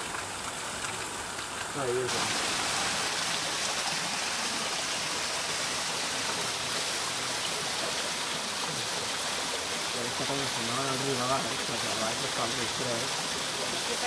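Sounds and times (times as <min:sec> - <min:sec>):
waterfall splashing onto rocks: 0:00.0 - 0:14.0.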